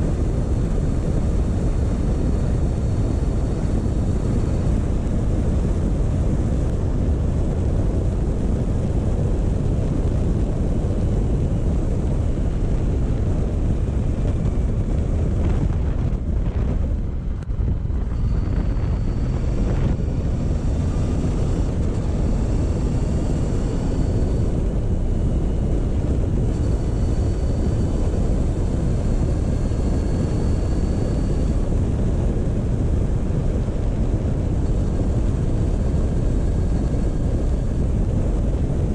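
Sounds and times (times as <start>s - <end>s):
motorcycle engine running: 0.0s - 31.7s
wind rushing over microphone: 0.0s - 38.9s.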